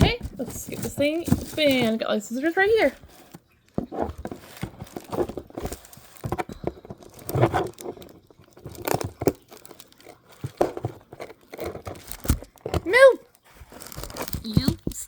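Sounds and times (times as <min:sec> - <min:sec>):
packaging crinkling and tearing: 0:02.8 - 0:15.0.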